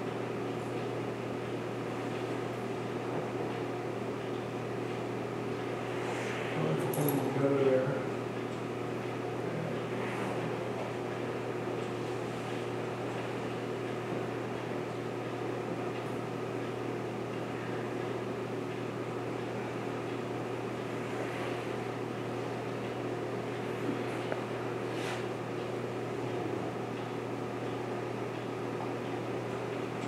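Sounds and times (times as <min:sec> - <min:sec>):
fan-like hiss: 0:00.0 - 0:27.6
steady machine hum: 0:00.0 - 0:30.0.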